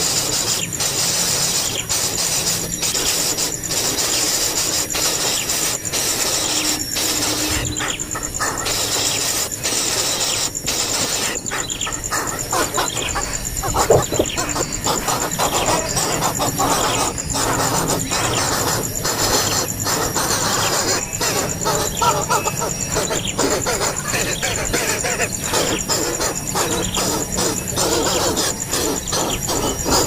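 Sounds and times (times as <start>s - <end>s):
high-pitched pulsing drone: 0.0s - 30.0s
nestling birds squealing and chirping: 0.0s - 30.0s.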